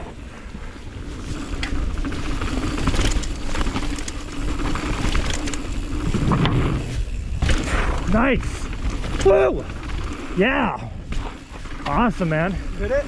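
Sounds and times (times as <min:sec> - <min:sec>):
bike tyre noise: 0:00.0 - 0:13.0
bike chain and frame rattling: 0:00.7 - 0:13.0.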